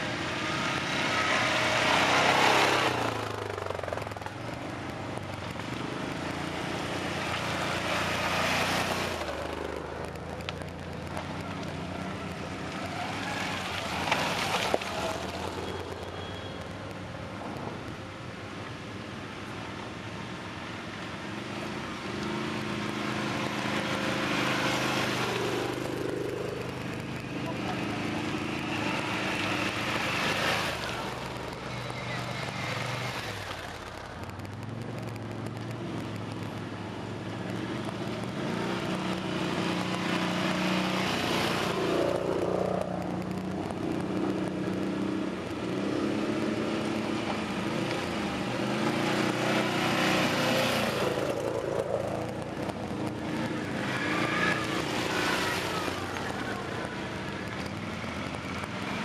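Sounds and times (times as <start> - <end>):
quad bike engines passing: 0.0 - 59.0.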